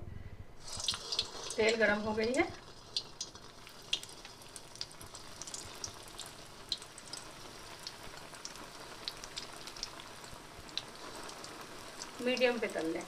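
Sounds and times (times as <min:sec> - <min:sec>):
food deep-frying in oil: 0:00.6 - 0:13.0
oil popping and crackling: 0:00.6 - 0:13.0.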